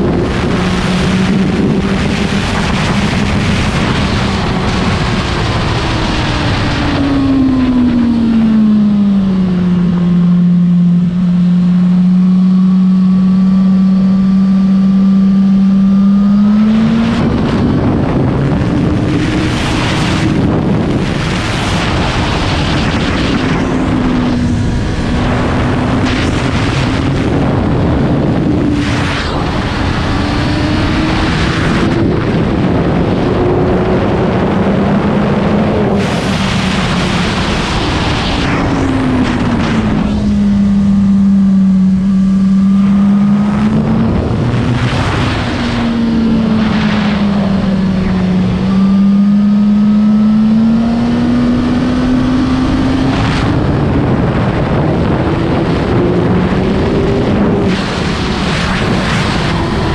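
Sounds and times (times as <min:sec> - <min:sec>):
wind buffeting microphone: 0:00.0 - 0:10.8, 0:15.1 - 0:59.9
motorcycle engine revving: 0:00.0 - 0:59.9.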